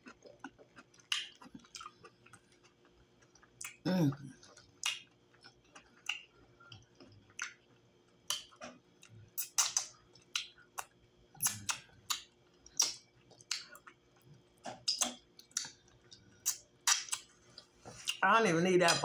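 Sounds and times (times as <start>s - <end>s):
wet chewing smacks and clicks: 0.0s - 3.8s, 4.4s - 18.2s.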